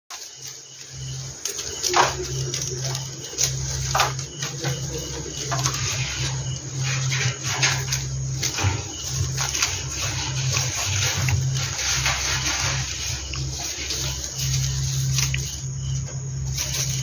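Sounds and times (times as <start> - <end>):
dry straw rustling and crackling: 0.1 - 17.0
steady low hum: 0.1 - 17.0.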